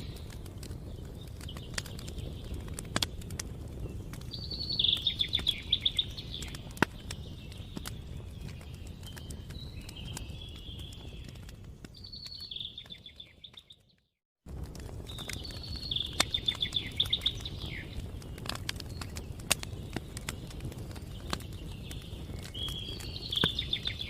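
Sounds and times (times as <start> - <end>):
songbird singing: 0.0 - 14.1, 15.0 - 24.0.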